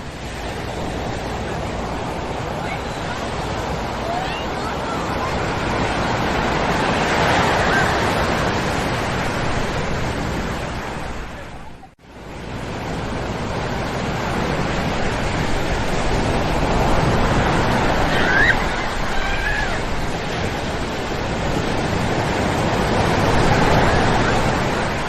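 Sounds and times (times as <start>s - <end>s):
ocean waves on sandy shore: 0.0s - 25.0s.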